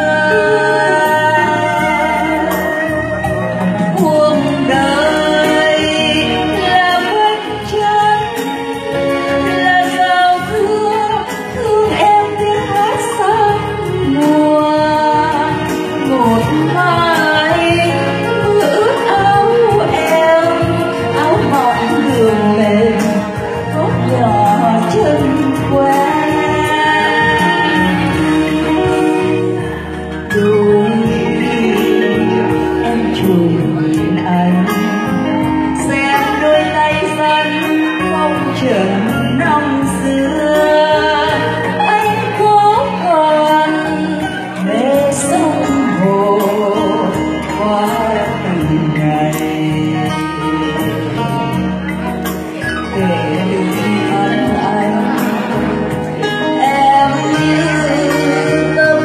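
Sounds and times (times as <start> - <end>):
acoustic guitar: 0.0 - 59.0
woman singing into microphone: 0.0 - 59.0.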